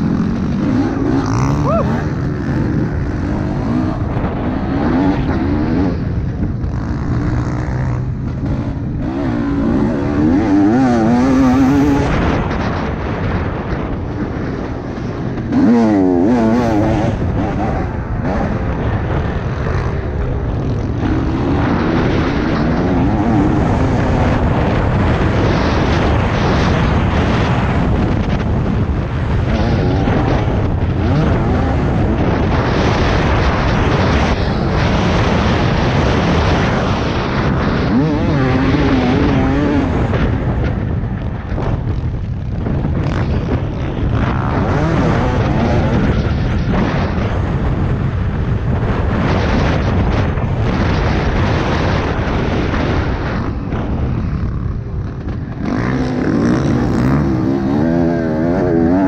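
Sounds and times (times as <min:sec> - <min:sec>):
dirt bike engine revving: 0:00.0 - 0:41.5, 0:42.3 - 0:59.0
wind noise on microphone: 0:00.0 - 0:59.0.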